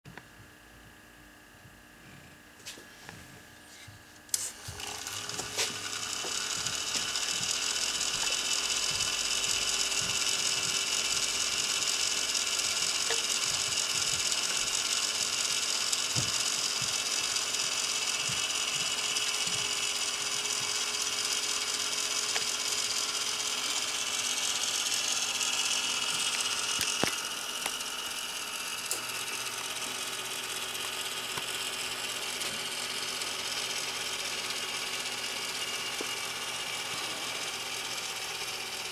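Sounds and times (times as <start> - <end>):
wooden gear mechanism running: 4.5 - 38.9.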